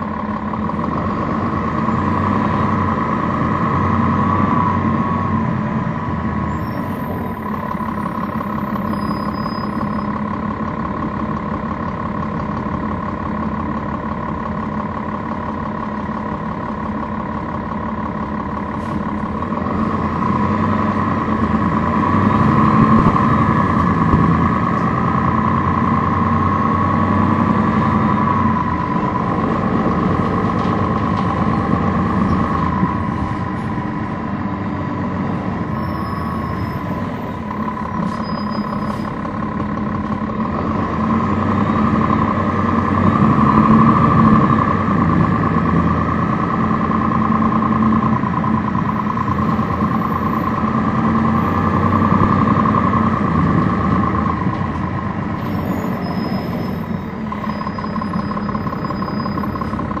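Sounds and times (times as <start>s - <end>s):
bus diesel engine whine: 0.0s - 60.0s.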